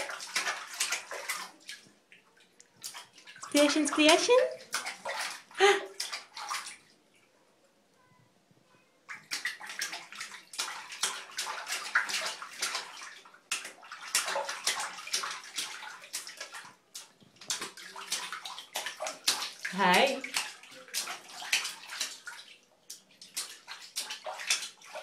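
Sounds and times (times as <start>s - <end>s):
hand splashing bath water: 0.0s - 6.9s, 9.1s - 25.0s.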